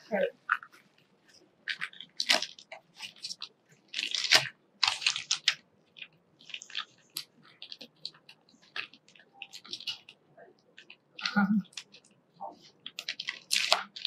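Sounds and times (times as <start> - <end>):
cardboard crinkling and rustling: 0.5 - 10.2, 11.7 - 14.0.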